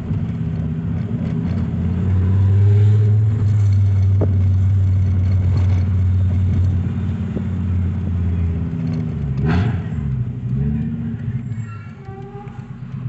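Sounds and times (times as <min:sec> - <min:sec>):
car engine and exhaust drone: 0:00.0 - 0:13.0.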